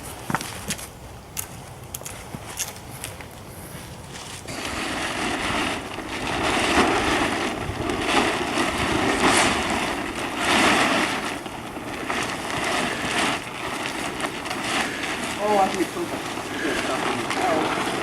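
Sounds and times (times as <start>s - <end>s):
wind gusting: 0.0s - 18.0s.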